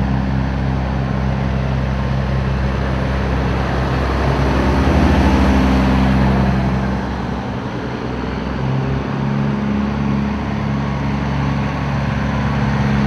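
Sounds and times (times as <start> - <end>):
diesel truck engines droning: 0.0 - 13.0.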